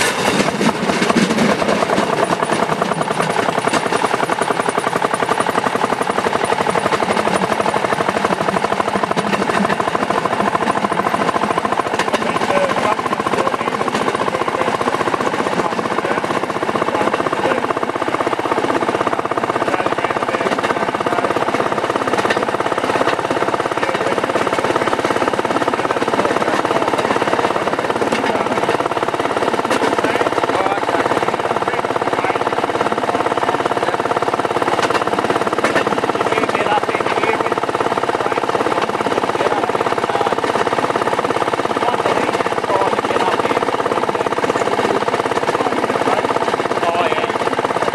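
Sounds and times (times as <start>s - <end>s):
small engine clatter: 0.0s - 47.9s
wheels rattling over rails: 0.0s - 47.9s.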